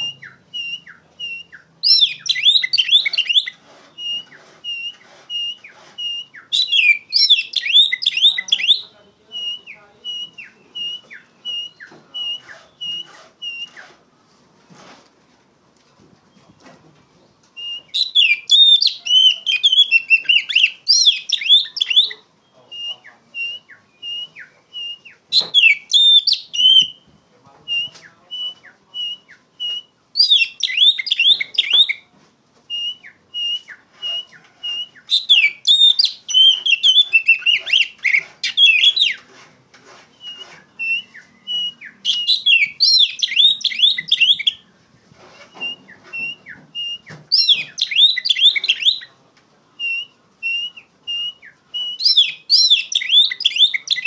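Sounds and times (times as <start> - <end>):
bird warbling song: 0.0 - 13.9, 16.3 - 32.1, 32.7 - 39.2, 40.1 - 49.1, 49.8 - 54.0
bird whistled notes: 0.0 - 13.9, 17.6 - 32.0, 32.7 - 39.2, 40.1 - 44.7, 45.4 - 49.1, 49.8 - 54.0.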